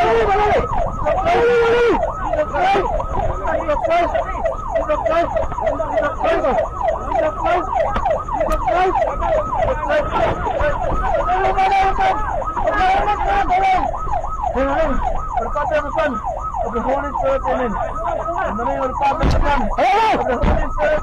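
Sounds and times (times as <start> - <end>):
police siren yelping: 0.0 - 21.0.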